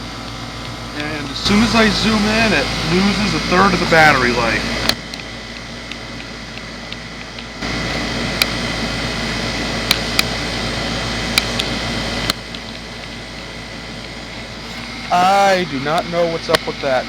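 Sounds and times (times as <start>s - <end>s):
heat pump fan humming: 0.0s - 17.0s.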